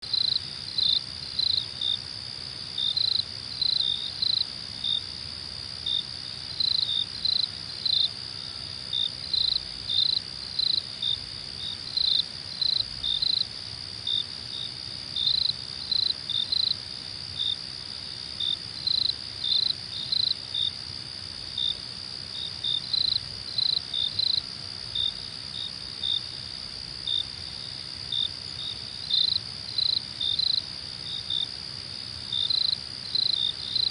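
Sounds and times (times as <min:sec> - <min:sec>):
loud cricket chirps: 0:00.0 - 0:33.9
high cricket trill: 0:05.8 - 0:33.9.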